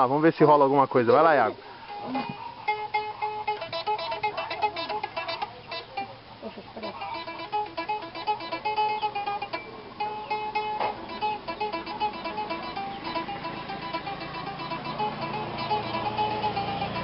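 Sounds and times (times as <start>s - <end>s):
tin-can guitar picked notes: 1.8s - 17.0s.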